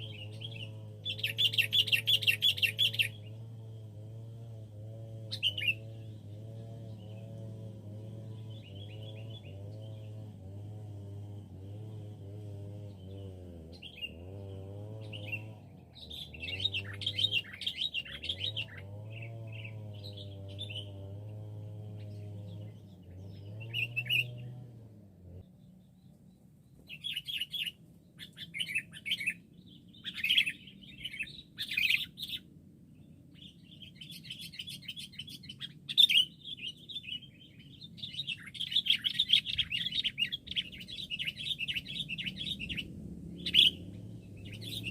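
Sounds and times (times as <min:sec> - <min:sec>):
bulbuls chirping: 0:00.0 - 0:03.5, 0:05.3 - 0:10.2, 0:12.9 - 0:21.0, 0:22.0 - 0:24.5, 0:25.5 - 0:44.9
low wavering hum: 0:00.0 - 0:32.4, 0:36.4 - 0:44.9.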